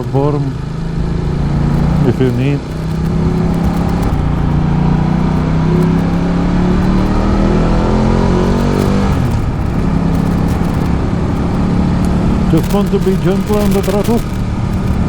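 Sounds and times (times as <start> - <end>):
motorcycle engine accelerating: 0.8 - 15.0.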